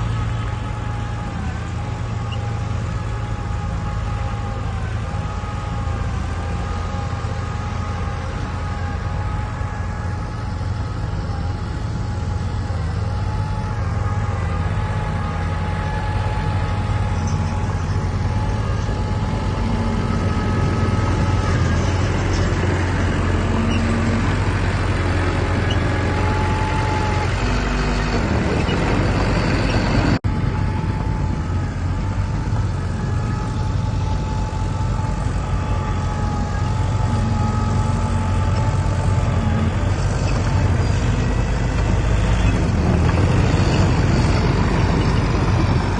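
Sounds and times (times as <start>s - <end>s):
heavy diesel machinery engine drone: 0.0s - 45.9s
steady mechanical whine: 0.0s - 45.9s.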